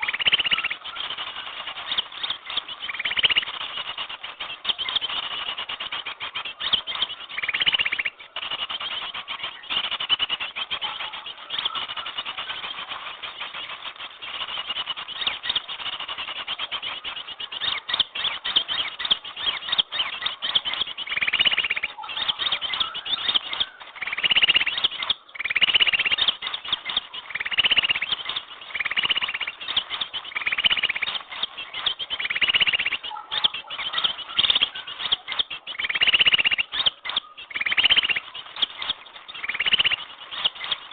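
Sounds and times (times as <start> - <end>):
repeated bird call phrase: 0.0 - 40.9
small birds chattering: 0.0 - 40.9.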